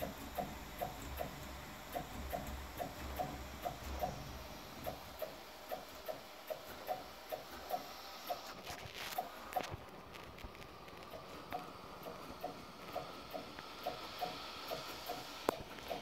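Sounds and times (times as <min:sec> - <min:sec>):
printer head ticking: 0:00.0 - 0:10.0, 0:10.7 - 0:16.0.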